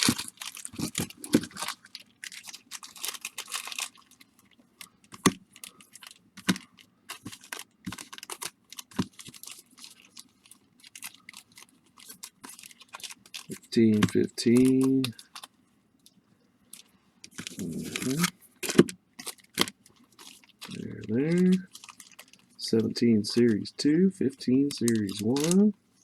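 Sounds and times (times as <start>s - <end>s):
card packs tapping and clicking: 0.0s - 4.2s, 5.0s - 15.5s, 17.3s - 23.7s, 24.6s - 25.7s
plastic wrappers crinkling: 0.0s - 23.7s, 24.5s - 25.8s.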